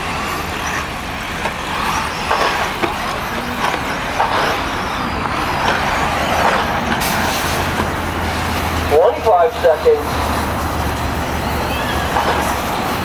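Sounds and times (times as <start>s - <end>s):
rc car motors and tyres: 0.0s - 13.0s.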